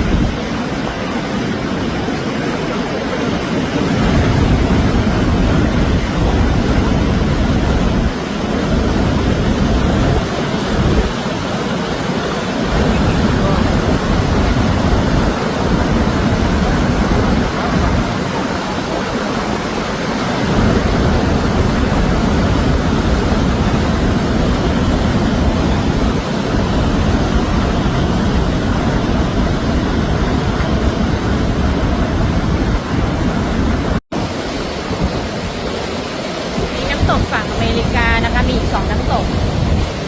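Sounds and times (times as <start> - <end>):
large waterfall rushing: 0.0 - 40.0.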